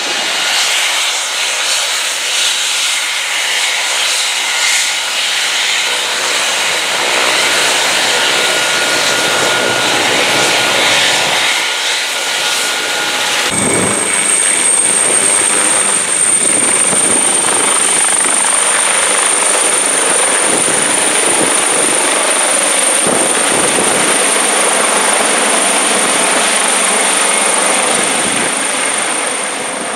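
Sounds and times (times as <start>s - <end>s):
high steady whine: 0.0s - 27.7s
helicopter turbines and rotor: 0.0s - 29.9s.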